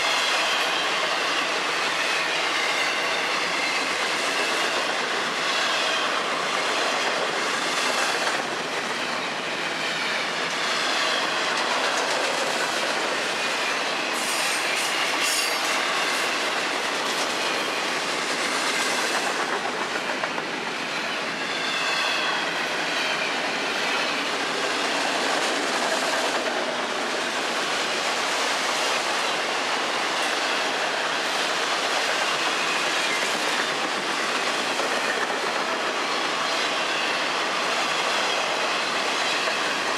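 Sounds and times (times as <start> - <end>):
freight train cars rolling: 0.0 - 39.9.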